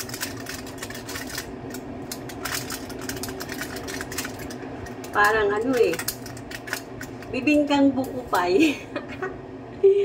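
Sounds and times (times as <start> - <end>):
aluminium foil crinkling: 0.0 - 8.4
steady low hum: 0.0 - 10.0.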